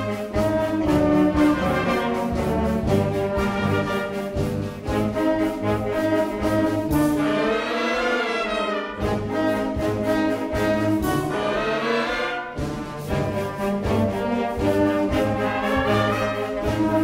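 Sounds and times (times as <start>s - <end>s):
wind band playing: 0.0s - 17.0s.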